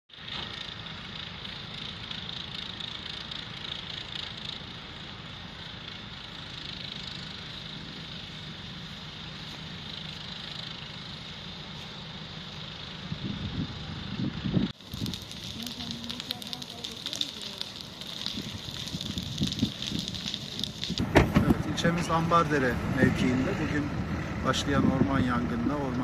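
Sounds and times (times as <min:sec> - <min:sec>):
vehicle engine running: 0:00.1 - 0:26.0
constant hiss: 0:00.2 - 0:26.0.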